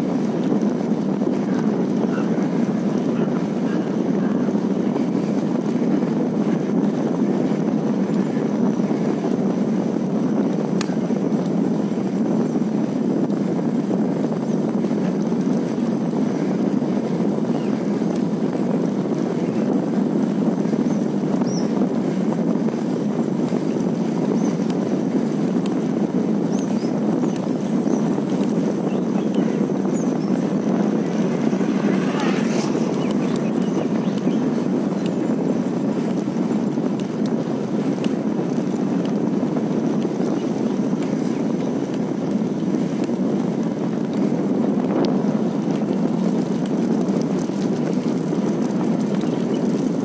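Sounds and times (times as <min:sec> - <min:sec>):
rumbling road travel noise: 0:00.0 - 0:50.0.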